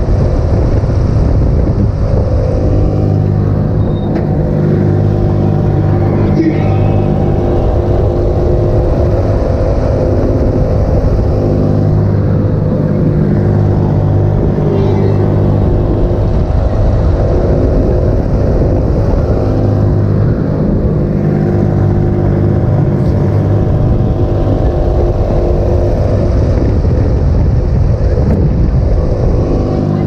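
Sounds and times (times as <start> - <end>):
funfair ride rumble: 0.0 - 30.0
multi-tone hum: 0.0 - 30.0.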